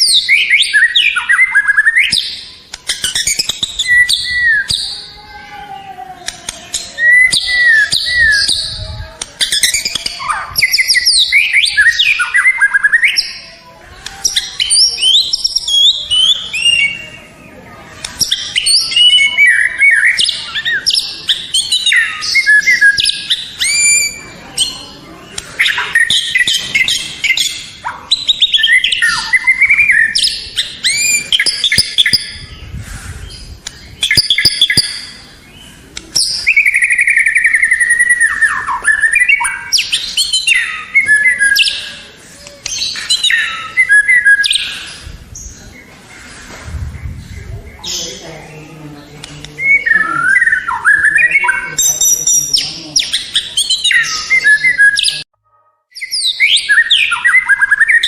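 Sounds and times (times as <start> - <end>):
bird singing whistled phrases: 0.0 - 5.2, 6.6 - 13.5, 14.1 - 17.3, 18.2 - 24.8, 25.6 - 45.6, 49.6 - 55.3, 55.9 - 58.0.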